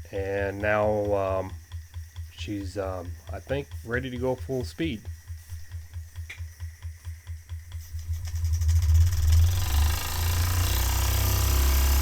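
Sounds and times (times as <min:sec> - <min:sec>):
toy steam engine speeding up: 0:00.0 - 0:05.9, 0:07.7 - 0:12.0.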